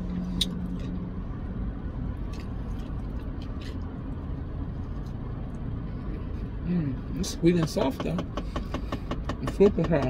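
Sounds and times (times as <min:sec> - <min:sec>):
car idling rumble: 0:00.0 - 0:10.0.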